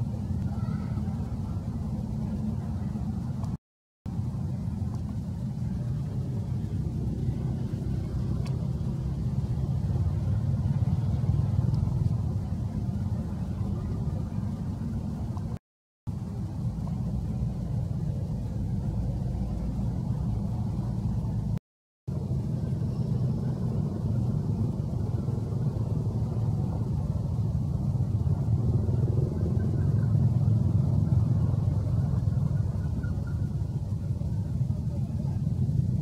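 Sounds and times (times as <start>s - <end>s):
steady low rumble: 0.0s - 36.0s.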